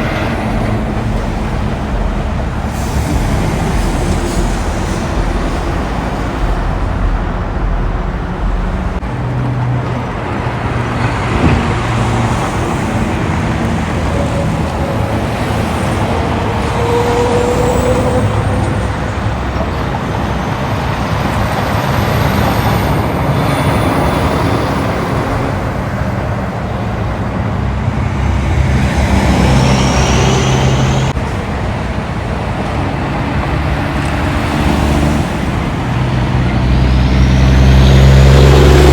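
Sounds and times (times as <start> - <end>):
trucks roaring past: 0.0 - 38.9.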